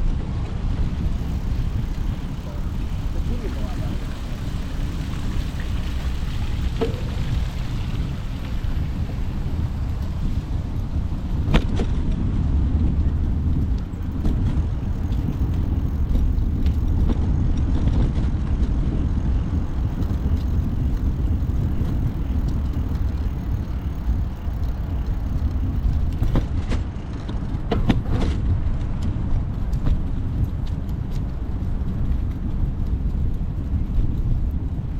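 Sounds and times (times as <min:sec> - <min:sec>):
wind and road noise: 0:00.0 - 0:34.9
bicycle clicks: 0:00.3 - 0:34.9.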